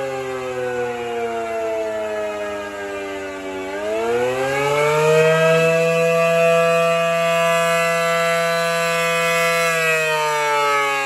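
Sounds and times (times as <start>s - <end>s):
rotating warning siren: 0.0s - 11.0s.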